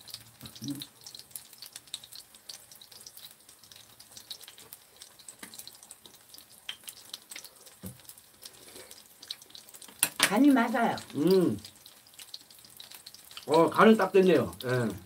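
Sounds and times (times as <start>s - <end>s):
pancake sizzling in oil: 0.0s - 15.0s.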